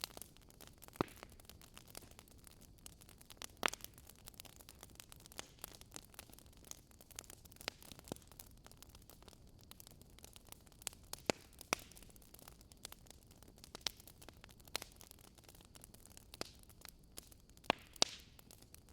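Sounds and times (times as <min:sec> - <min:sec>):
campfire wood crackling and popping: 0:00.0 - 0:18.9.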